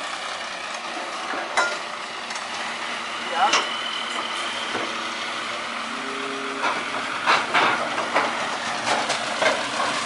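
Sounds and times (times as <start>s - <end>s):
excavator running: 0.0s - 10.0s.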